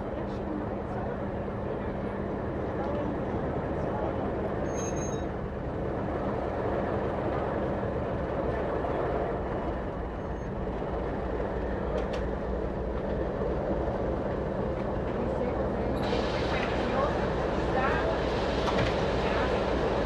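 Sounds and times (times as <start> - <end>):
railway carriage rumbling on track: 0.0 - 20.0.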